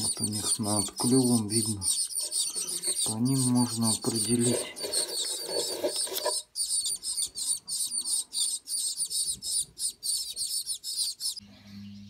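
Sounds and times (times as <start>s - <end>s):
chicks begging calls: 0.0s - 11.4s.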